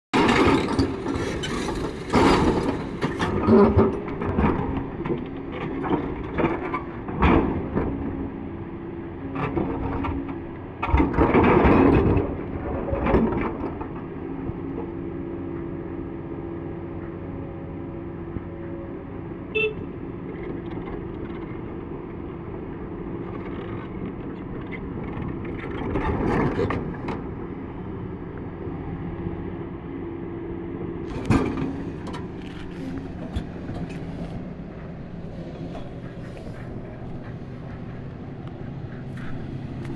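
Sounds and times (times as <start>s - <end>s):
excavator diesel engine running: 0.2s - 10.8s, 13.8s - 39.9s.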